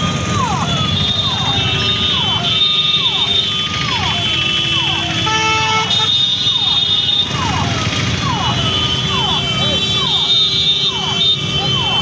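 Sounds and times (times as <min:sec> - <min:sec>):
vehicle engines and tyres: 0:00.0 - 0:12.0
vehicle horn: 0:00.8 - 0:07.3, 0:08.4 - 0:12.0.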